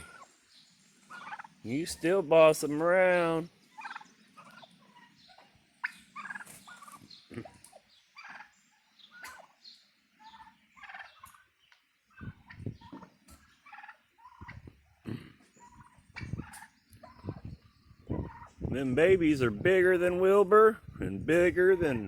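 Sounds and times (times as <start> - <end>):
turkeys clucking and yelping: 0.0 - 22.0.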